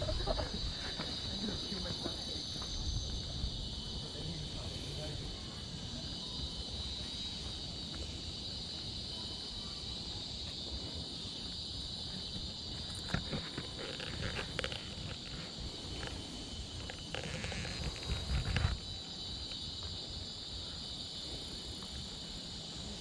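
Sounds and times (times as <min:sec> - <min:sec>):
rainforest insects chorus: 0:00.0 - 0:23.0.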